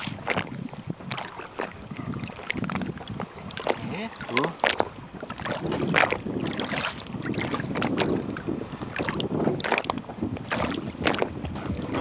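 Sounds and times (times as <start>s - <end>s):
water lapping against boat: 0.0s - 12.0s
water slaps and taps: 0.0s - 12.0s
wind buffeting microphone: 0.0s - 12.0s.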